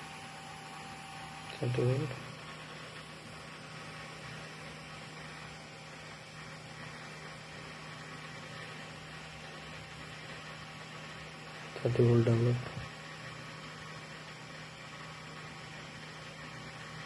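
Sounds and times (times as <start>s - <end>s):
power supply electrical hum: 0.0s - 17.0s.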